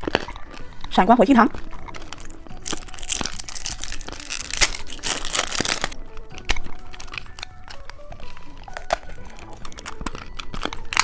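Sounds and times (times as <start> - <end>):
candy wrapper crinkling: 1.5 - 11.0.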